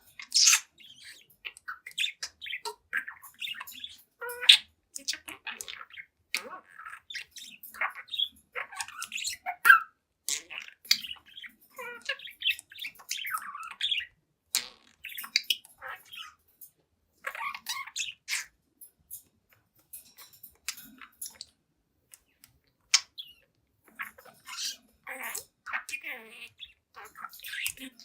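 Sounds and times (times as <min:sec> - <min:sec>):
budgerigar chattering and warbling: 0:00.0 - 0:16.4, 0:17.2 - 0:18.6, 0:22.9 - 0:28.0.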